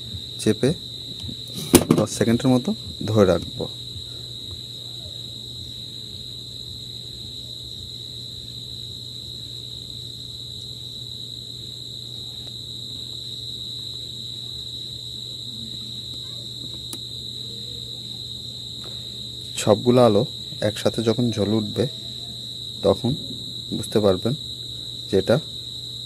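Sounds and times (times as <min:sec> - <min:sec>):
insect trilling: 0:00.0 - 0:26.0
low steady hum: 0:00.0 - 0:26.0.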